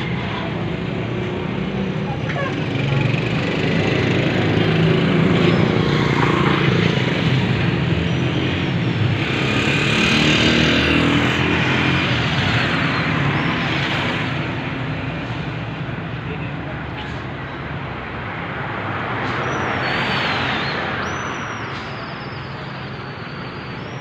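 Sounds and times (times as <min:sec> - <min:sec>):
vehicle engines running: 0:00.0 - 0:23.1.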